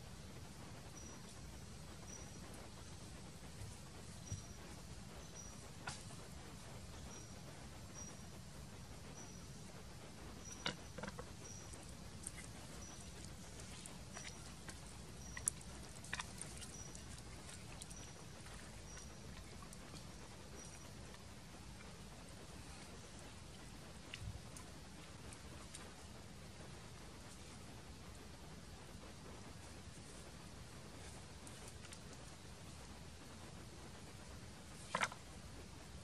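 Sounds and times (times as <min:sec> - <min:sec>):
faint outdoor hiss: 0:00.0 - 0:36.0
low steady hum: 0:00.0 - 0:36.0.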